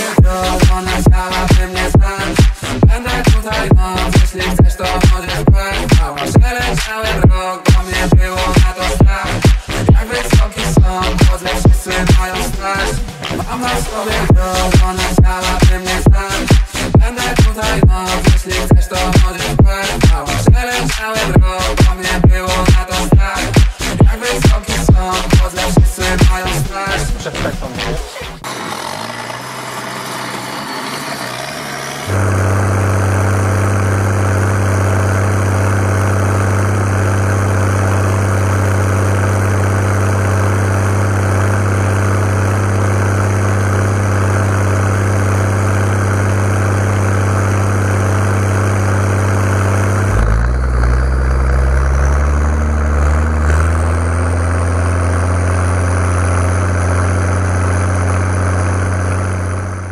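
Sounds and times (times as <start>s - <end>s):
tractor diesel engine running: 0.0s - 27.8s, 28.4s - 59.9s.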